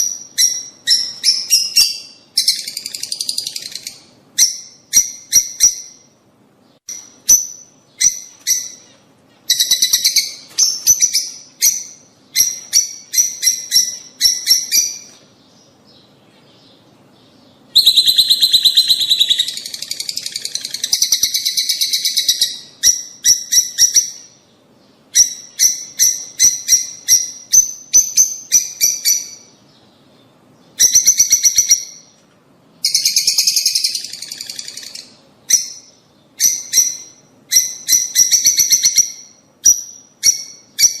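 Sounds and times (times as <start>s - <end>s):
lovebirds chirping: 0.0s - 41.0s.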